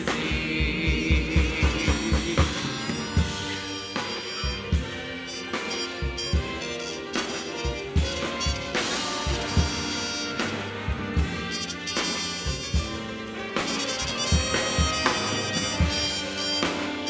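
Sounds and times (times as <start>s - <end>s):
drum kit playing: 0.0s - 17.0s
horns holding chords: 0.0s - 17.0s.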